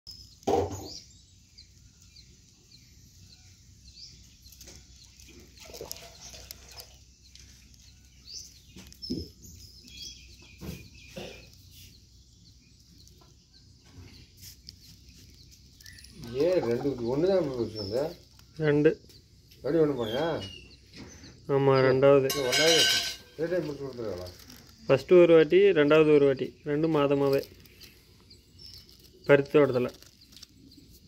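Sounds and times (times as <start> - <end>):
birds chirping and calling: 0.1 - 31.0.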